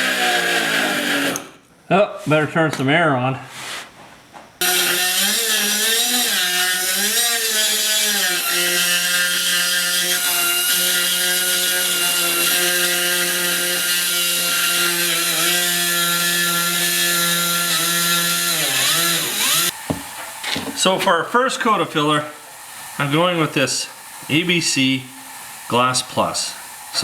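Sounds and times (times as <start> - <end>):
air die grinder on metal: 0.0 - 1.6, 4.6 - 21.0, 21.7 - 27.0.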